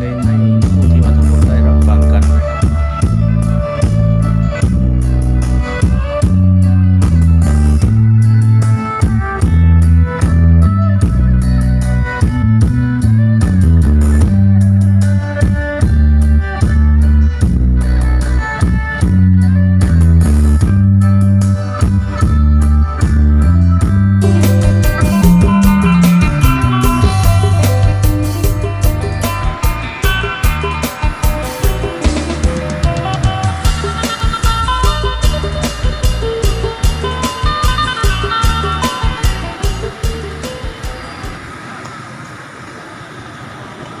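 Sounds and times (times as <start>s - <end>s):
rock music over loud pa system: 0.0s - 41.5s.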